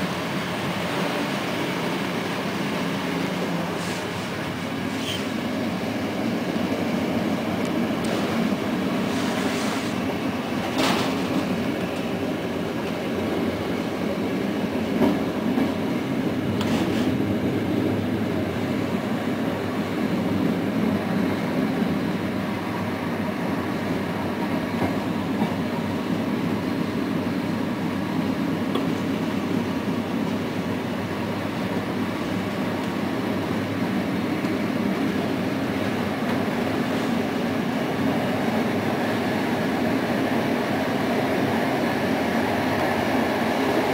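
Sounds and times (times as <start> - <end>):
train wheels rumbling on track: 0.0 - 43.9.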